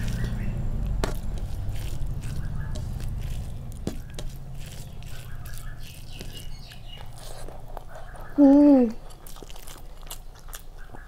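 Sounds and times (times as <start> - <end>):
fingers squelching food: 0.0 - 11.0
steady low hum: 0.0 - 11.0.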